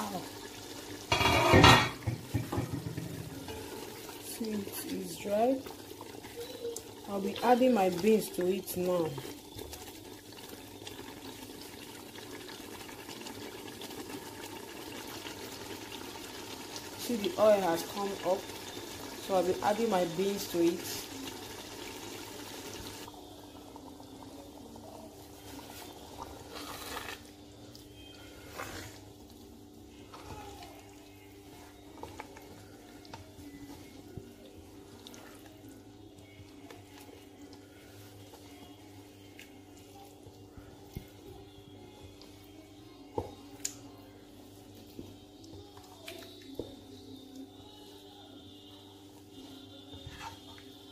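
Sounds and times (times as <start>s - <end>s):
stew bubbling and sizzling: 0.0s - 50.9s.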